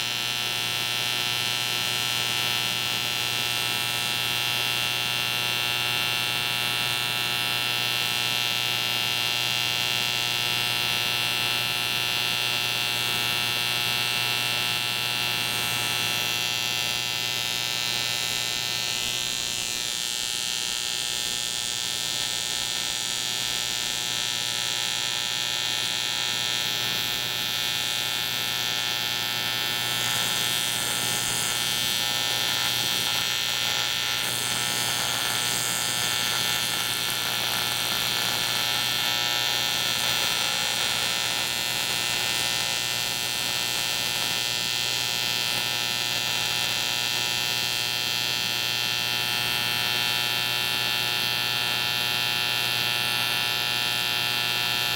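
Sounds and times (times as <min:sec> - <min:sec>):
welding arc buzzing: 0:00.0 - 0:54.9.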